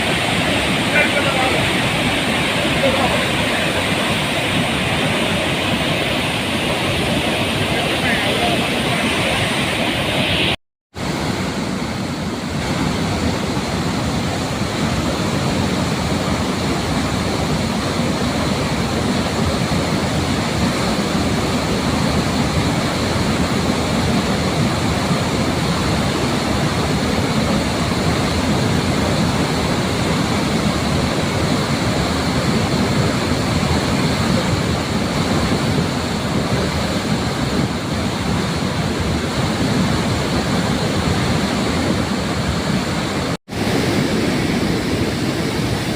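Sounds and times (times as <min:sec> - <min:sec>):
water roaring through spillway: 0:00.0 - 0:45.9.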